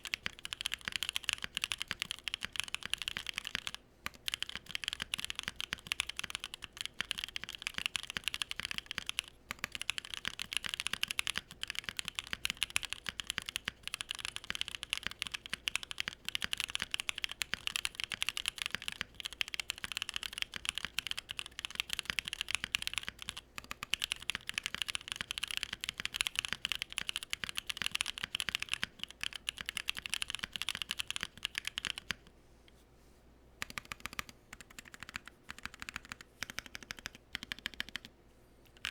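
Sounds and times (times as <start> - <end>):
mechanical keyboard typing: 0.0 - 32.3, 33.6 - 38.1.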